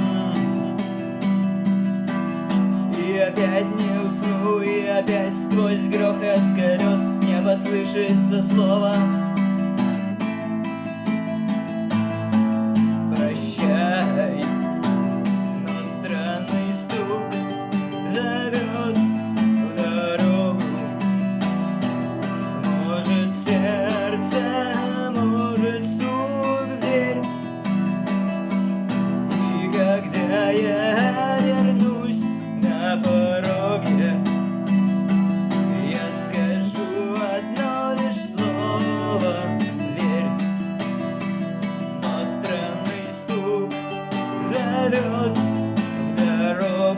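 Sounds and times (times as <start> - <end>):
acoustic guitar strumming chords: 0.0 - 46.9.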